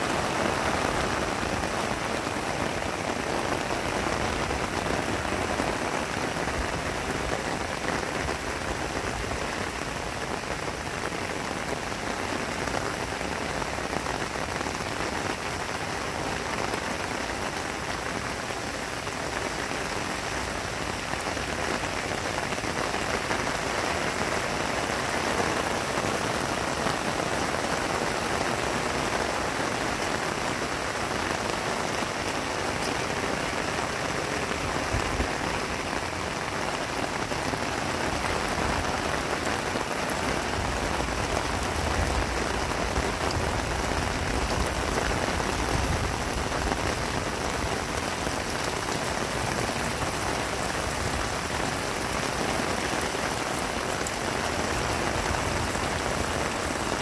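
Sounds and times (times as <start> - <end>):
heavy rain on grass and plants: 0.0 - 57.0.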